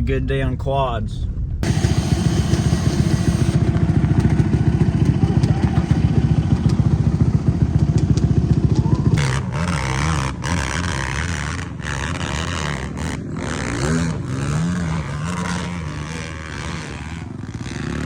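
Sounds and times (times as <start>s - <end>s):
quad engine idling and revving: 1.6s - 18.0s.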